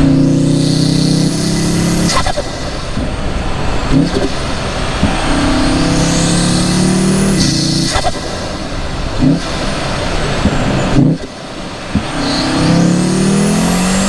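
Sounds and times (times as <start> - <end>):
car engine accelerating hard: 0.0 - 14.0
high whine: 0.0 - 14.0.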